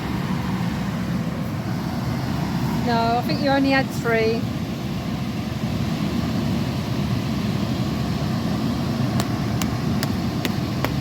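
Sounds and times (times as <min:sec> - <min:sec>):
inflation blower fan running: 0:00.0 - 0:11.0.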